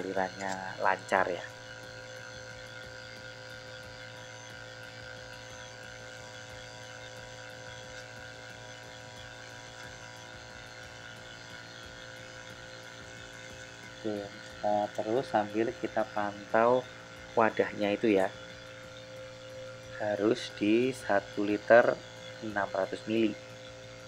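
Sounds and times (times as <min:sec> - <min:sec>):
electric oil pump humming: 0:00.0 - 0:24.0.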